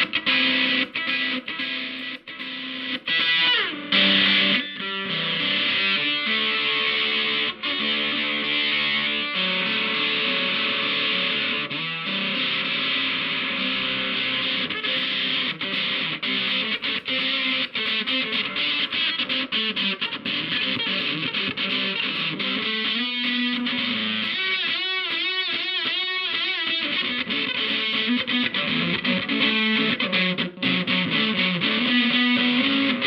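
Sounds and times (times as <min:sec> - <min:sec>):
distorted electric guitar: 0:00.0 - 0:33.0.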